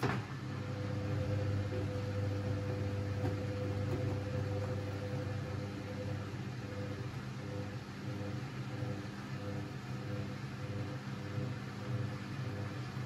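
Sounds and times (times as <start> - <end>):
washing machine humming and whining: 0.0 - 13.0.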